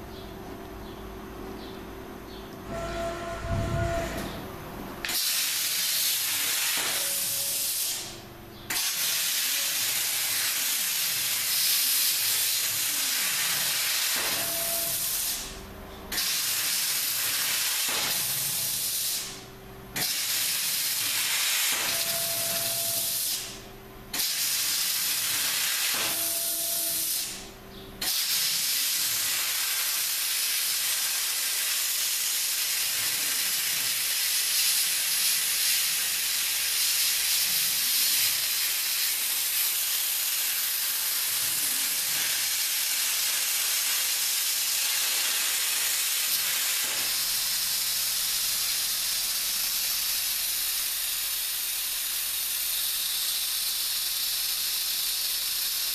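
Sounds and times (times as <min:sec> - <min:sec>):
plasma cutter arc hissing: 0:05.0 - 0:19.4, 0:20.0 - 0:55.9.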